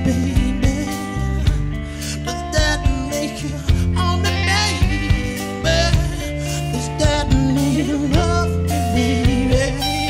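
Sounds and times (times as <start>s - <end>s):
drums with steady beat: 0.0s - 10.0s
electric bass: 0.0s - 10.0s
guitar: 0.0s - 10.0s
man singing: 0.0s - 10.0s.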